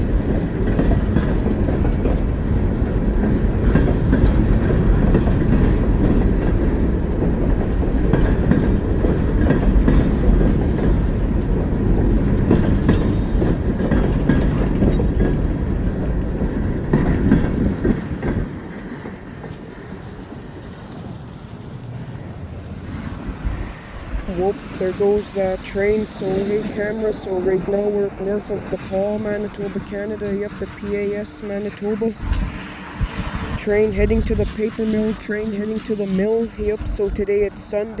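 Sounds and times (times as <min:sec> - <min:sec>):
wheels clicking over rail joints: 0:00.0 - 0:32.8
freight train cars rolling past: 0:00.0 - 0:38.0.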